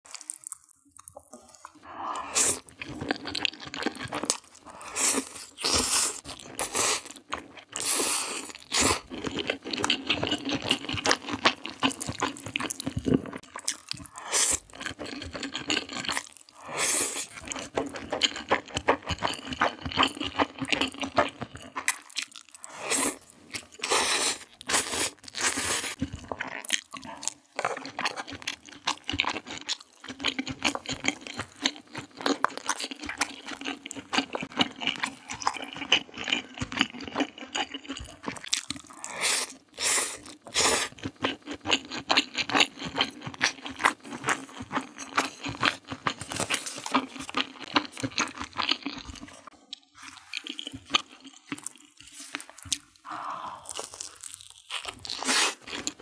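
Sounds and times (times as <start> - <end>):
noodles chewed and slurped: 0.1 - 56.0.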